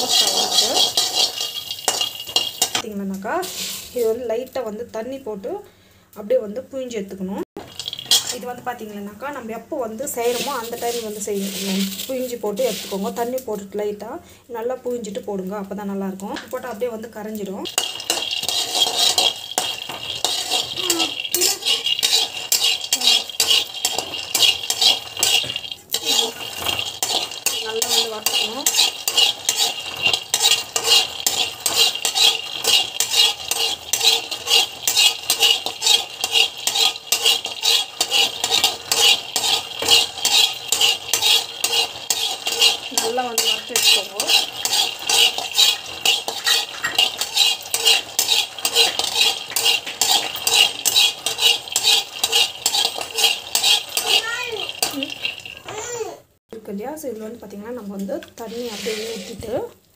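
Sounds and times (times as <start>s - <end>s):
peanuts rattling in a pan: 0.0s - 2.8s, 7.6s - 8.7s, 10.0s - 13.6s, 15.6s - 56.2s
spatula scraping a pan: 0.0s - 2.8s, 3.4s - 4.2s, 7.6s - 8.7s, 10.0s - 13.6s, 17.4s - 56.1s, 58.2s - 59.7s.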